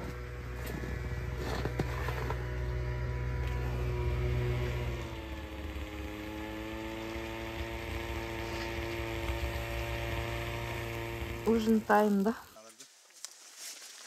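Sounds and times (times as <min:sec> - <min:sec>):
snowmobile engine running: 0:00.0 - 0:12.4.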